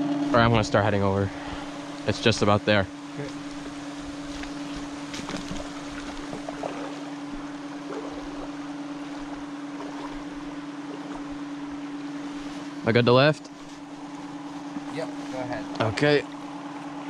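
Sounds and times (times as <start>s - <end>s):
water pump motor humming: 0.0s - 17.0s.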